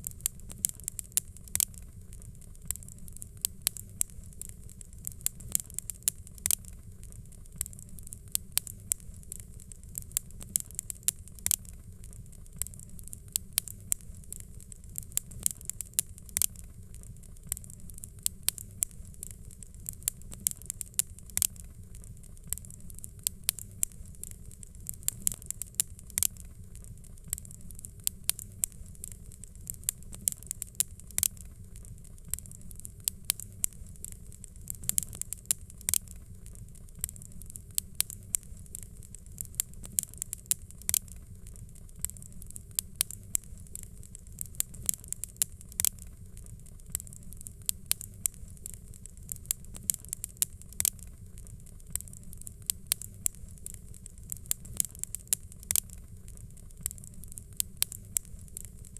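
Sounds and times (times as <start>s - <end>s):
fireplace fire crackling: 0.0s - 58.9s.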